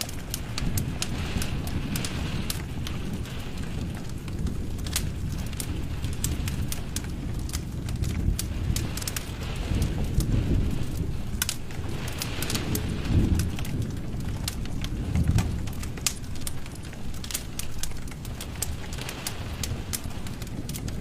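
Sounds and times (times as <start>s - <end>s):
fire crackling and popping: 0.0s - 21.0s
fire hissing: 0.0s - 21.0s
fire rumbling: 0.0s - 21.0s.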